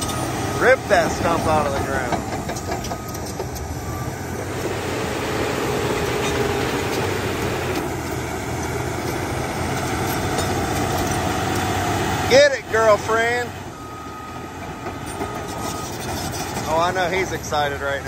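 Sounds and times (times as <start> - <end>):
bulldozer diesel engine under load: 0.0 - 18.0.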